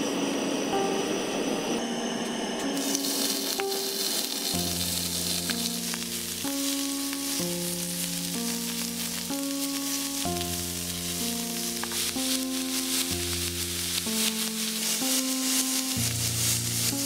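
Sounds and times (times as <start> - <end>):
background music with sustained notes: 0.0 - 17.0
beef sizzling on a hot griddle: 2.8 - 17.0.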